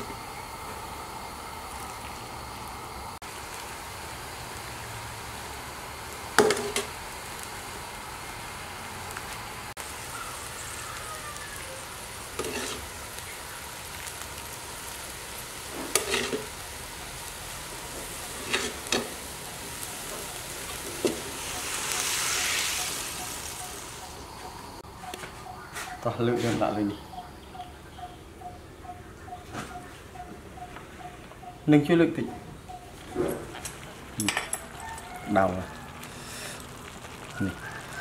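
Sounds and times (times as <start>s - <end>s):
faint sizzle: 0.0s - 38.0s.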